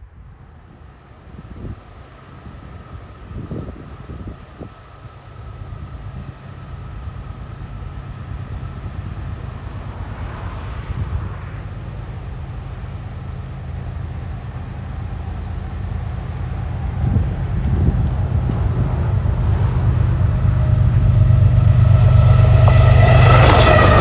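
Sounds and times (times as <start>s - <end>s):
freight train rumble: 0.0s - 24.0s.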